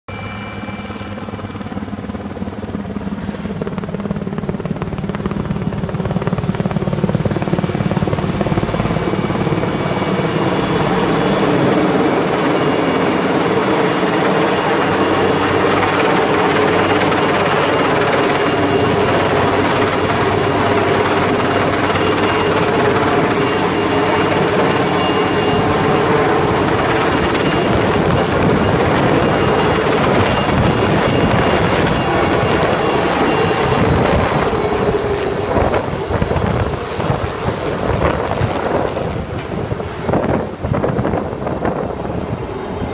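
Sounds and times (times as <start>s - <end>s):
high whine: 0.1s - 2.7s, 5.3s - 42.9s
helicopter rotor and engine: 0.1s - 42.9s.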